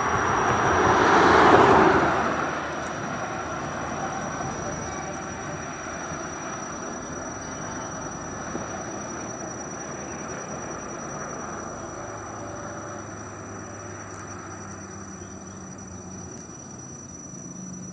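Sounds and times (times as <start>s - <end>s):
heavy vehicles road noise: 0.0s - 17.9s
low engine hum: 0.0s - 17.9s.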